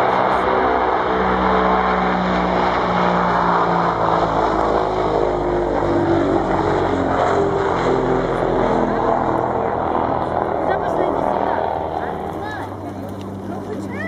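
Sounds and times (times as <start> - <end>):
propeller aircraft droning past: 0.0 - 14.0.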